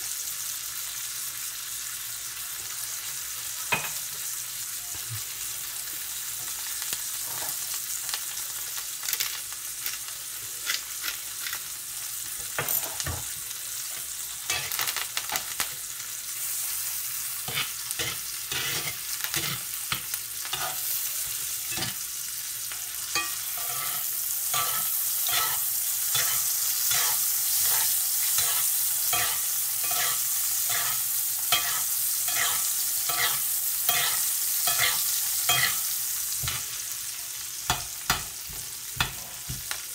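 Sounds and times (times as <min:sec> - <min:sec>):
steak sizzling in pan: 0:00.0 - 0:39.9.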